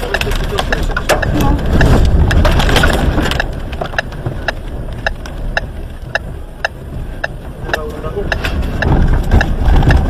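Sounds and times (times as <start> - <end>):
sharp even clicks: 0.0 - 9.6
strong wind buffeting car: 0.0 - 10.0.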